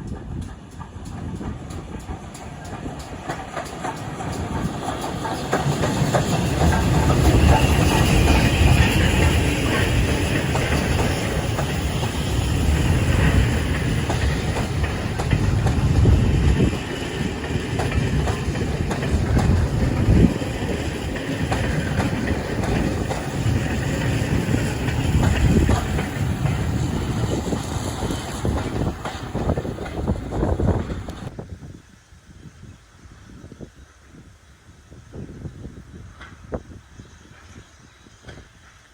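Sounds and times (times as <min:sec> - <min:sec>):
train wheels rumbling on rail: 0:00.0 - 0:31.8, 0:32.4 - 0:38.9.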